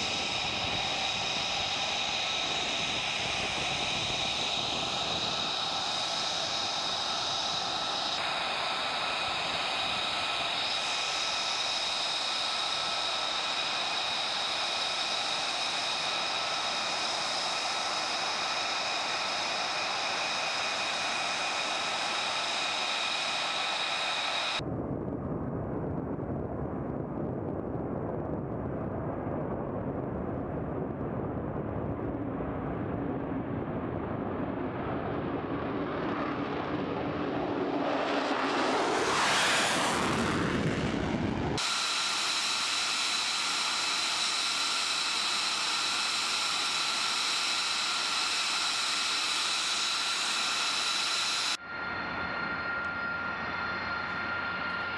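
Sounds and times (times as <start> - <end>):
jet engine whining: 0.0 - 24.6, 31.6 - 54.9
deep jet roar: 0.0 - 54.9.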